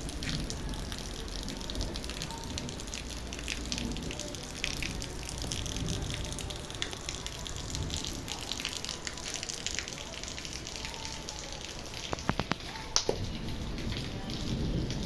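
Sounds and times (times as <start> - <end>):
rain falling: 0.0 - 15.0
water dripping and splashing: 0.0 - 15.0.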